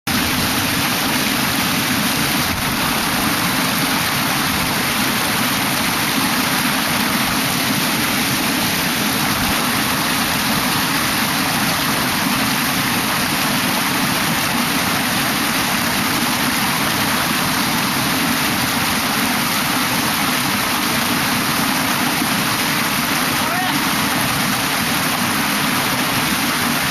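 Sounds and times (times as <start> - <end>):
stream water rushing: 0.1 - 26.9.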